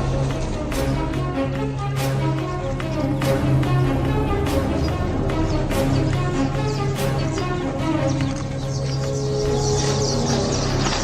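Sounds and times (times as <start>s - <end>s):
sustained low music tones: 0.0s - 11.0s.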